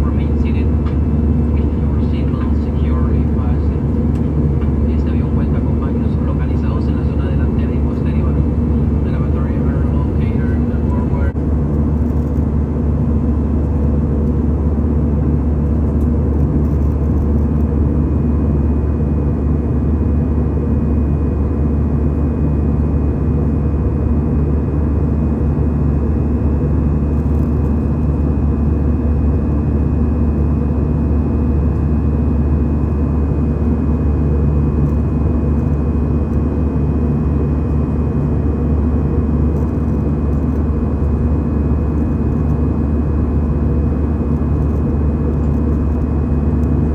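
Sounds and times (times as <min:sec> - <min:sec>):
jet airliner cabin drone: 0:00.0 - 0:46.9.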